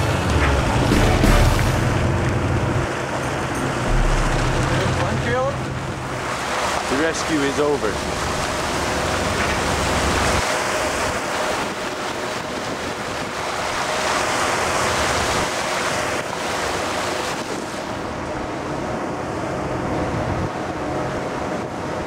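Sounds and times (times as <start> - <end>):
waves washing: 0.0 - 20.3.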